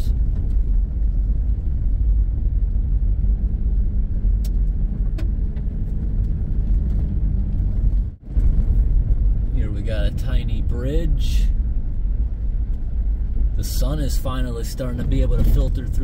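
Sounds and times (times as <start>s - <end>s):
tyre and road noise on gravel: 0.0s - 13.6s
engine hum: 0.0s - 16.0s.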